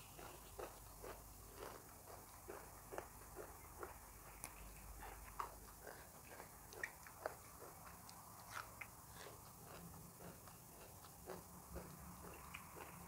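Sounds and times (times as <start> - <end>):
chewing raw greens: 0.0 - 13.0.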